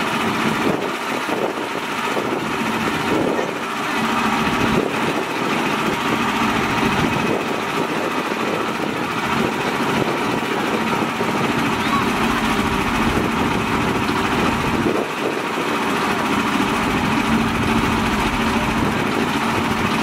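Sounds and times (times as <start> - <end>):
small tractor engine idling: 0.0 - 20.0.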